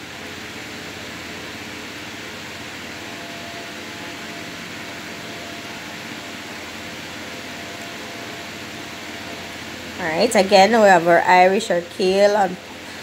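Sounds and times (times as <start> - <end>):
fan whirring hum: 0.0 - 13.0
faint steady tones: 1.5 - 13.0.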